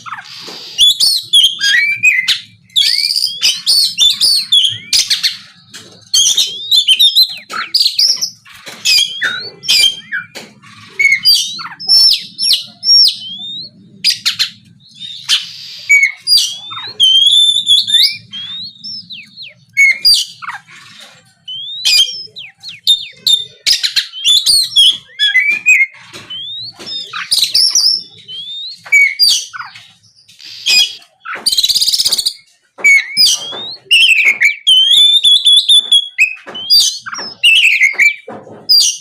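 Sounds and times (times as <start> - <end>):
bird singing whistled notes: 0.0 - 5.4, 6.1 - 38.2
harsh rasping bird notes: 0.0 - 39.0.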